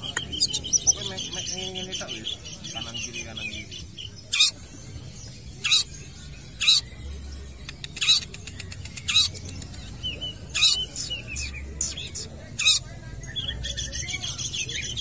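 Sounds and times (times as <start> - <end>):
soft bird chirps: 0.0 - 15.0.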